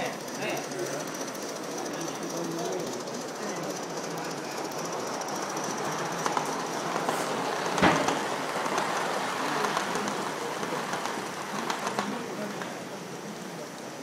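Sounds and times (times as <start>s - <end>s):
steam locomotive hissing: 0.0s - 14.0s
faint clicks: 1.0s - 12.8s.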